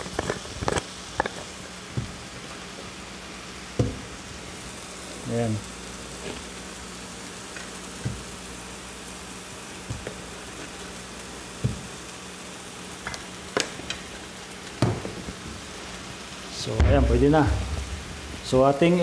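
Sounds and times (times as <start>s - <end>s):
onion sizzling in oil: 0.0s - 19.0s.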